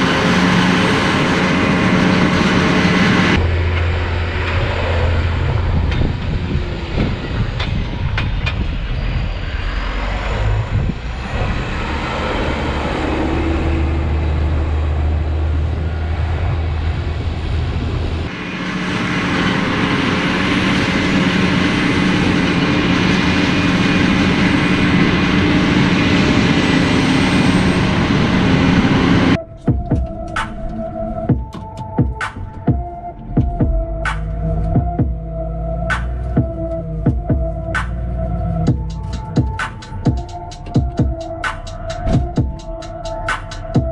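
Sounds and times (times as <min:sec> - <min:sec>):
engine with higher hum: 0:00.0 - 0:43.9
heavy engine running: 0:00.0 - 0:43.9.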